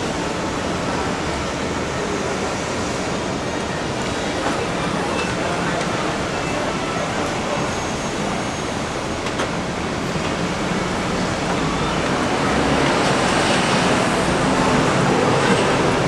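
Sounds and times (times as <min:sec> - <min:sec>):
street traffic noise: 0:00.0 - 0:16.0.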